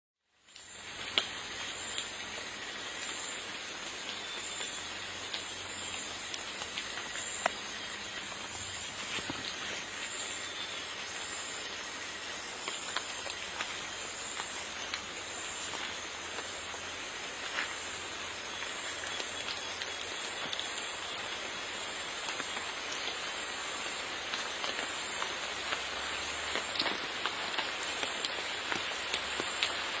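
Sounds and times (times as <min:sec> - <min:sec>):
rain on forest canopy: 0:00.2 - 0:30.0
raindrops ticking: 0:00.3 - 0:30.0.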